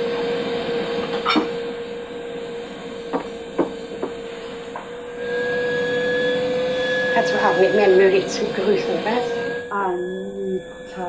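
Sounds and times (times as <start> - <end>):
vacuum cleaner whining: 0.0 - 11.0.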